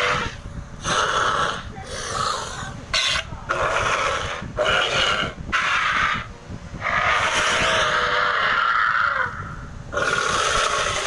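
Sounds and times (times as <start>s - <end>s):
rasping dinosaur calls: 0.0s - 11.0s.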